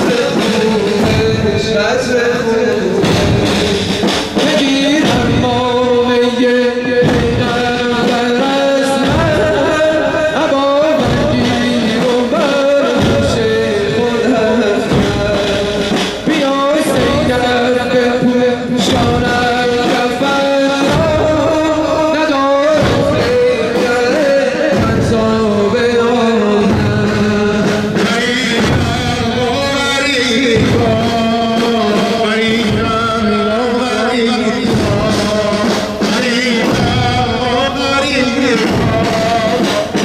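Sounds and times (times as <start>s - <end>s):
man singing a lament: 0.0s - 40.0s
regular beat: 0.0s - 40.0s.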